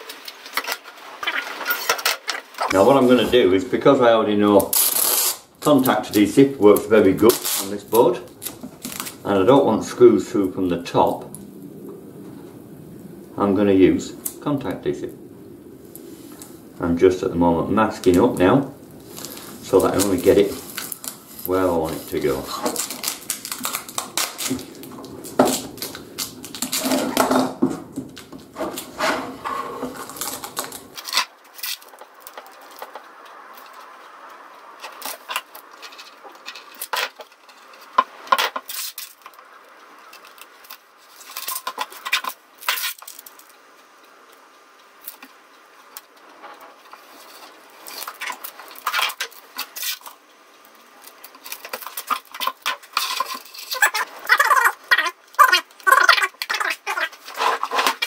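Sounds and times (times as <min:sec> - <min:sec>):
tape and plastic rustling: 0:00.0 - 0:12.6, 0:17.7 - 0:58.0.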